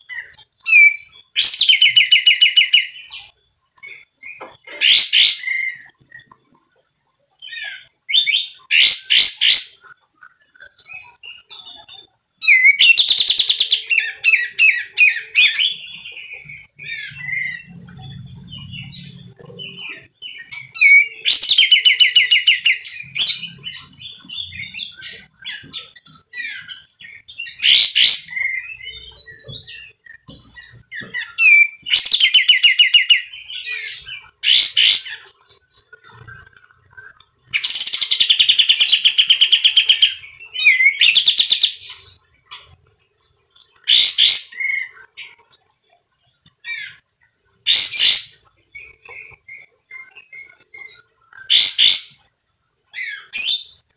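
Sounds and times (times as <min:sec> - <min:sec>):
bird chattering song: 0:00.0 - 0:06.6, 0:07.4 - 0:42.8, 0:47.6 - 0:52.3.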